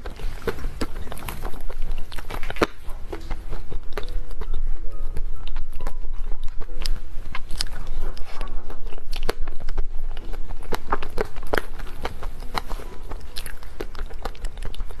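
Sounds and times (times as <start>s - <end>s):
wet chewing mouth sounds: 0.0s - 15.0s.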